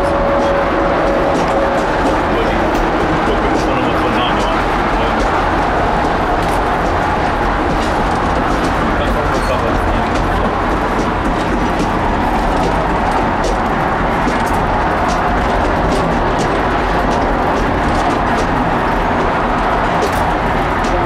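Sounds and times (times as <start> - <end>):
train rumbling along track: 0.0 - 21.0.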